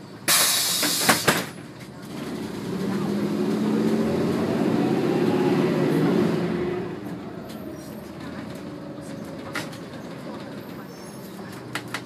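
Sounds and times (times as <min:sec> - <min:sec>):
bus engine whining under load: 0:00.0 - 0:12.0
road noise: 0:00.0 - 0:12.0.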